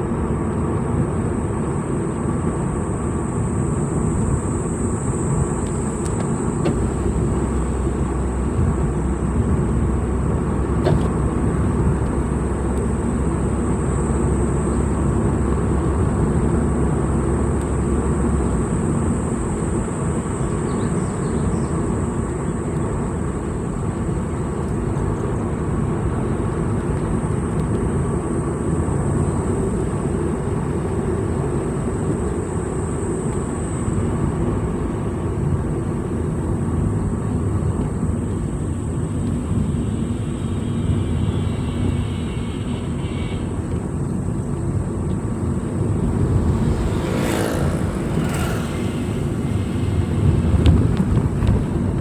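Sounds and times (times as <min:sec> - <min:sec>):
vehicle engine and road rumble: 0:00.0 - 0:52.0.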